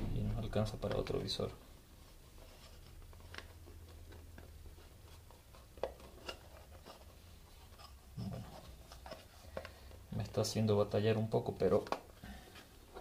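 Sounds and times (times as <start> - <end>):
rubber rubbing and handling: 0.0 - 13.0.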